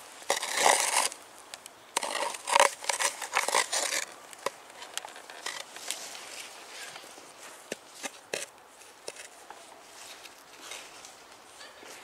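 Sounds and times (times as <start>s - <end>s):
footsteps crunching snow: 2.0s - 12.0s.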